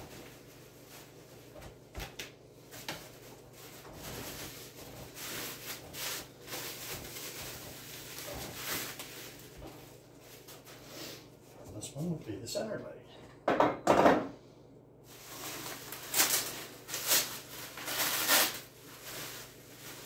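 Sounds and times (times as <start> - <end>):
plastic wrapping rustling: 0.0 - 11.7, 15.0 - 20.0.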